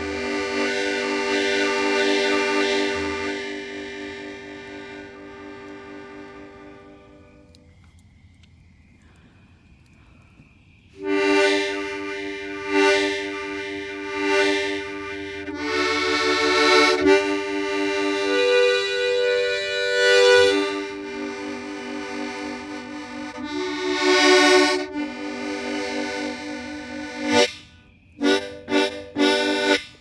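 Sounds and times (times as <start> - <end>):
harmonica playing chords: 0.0 - 7.5, 11.0 - 30.0.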